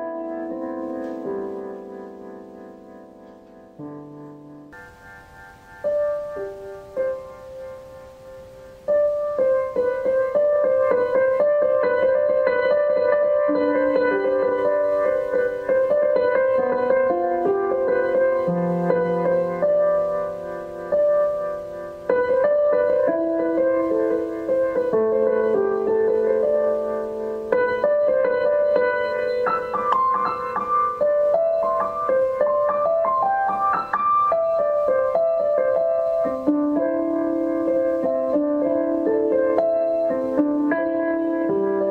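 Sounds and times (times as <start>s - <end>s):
slow piano keyboard music: 0.0s - 41.9s.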